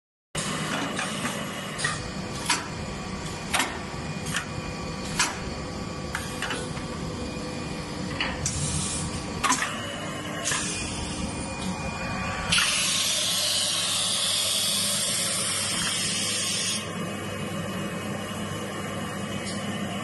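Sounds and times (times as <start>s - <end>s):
machine motor hum: 0.4s - 20.0s.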